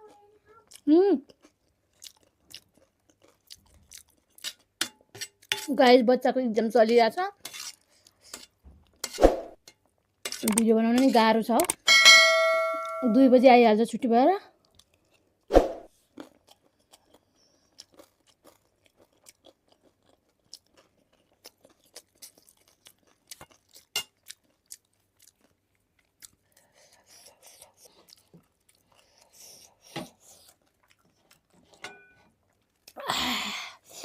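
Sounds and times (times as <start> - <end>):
person chewing and crunching food: 0.0 - 5.6, 7.5 - 9.0, 9.8 - 11.8, 14.6 - 33.1.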